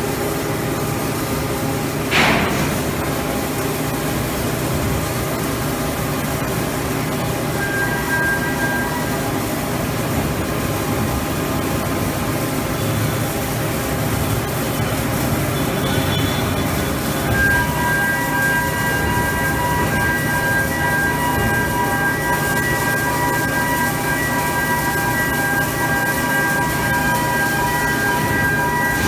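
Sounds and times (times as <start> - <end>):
welding machinery noise: 0.0 - 29.0.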